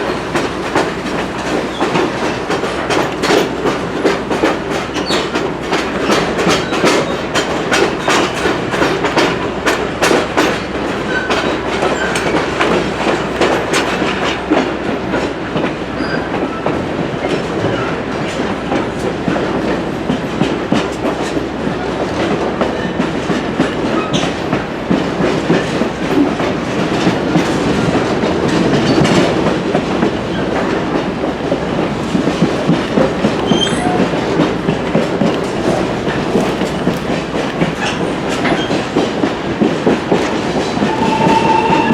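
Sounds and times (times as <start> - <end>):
train rumbling on track: 0.0 - 41.9
wheels clicking over rail joints: 0.0 - 41.9.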